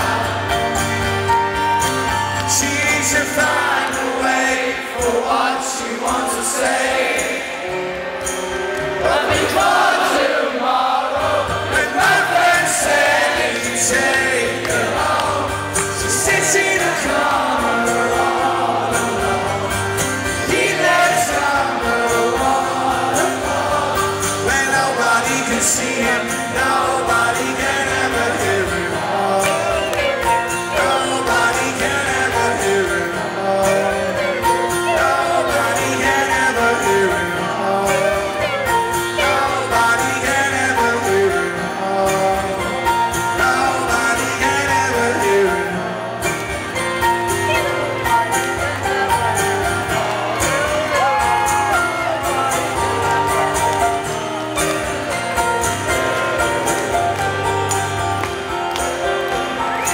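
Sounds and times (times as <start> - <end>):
man singing live: 0.0 - 59.9
strummed acoustic guitar: 0.0 - 59.9.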